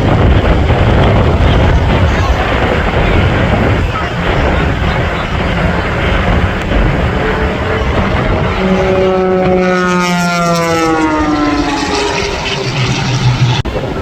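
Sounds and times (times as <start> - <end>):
aircraft flying past low: 0.0 - 14.0
steady rushing noise: 0.0 - 14.0.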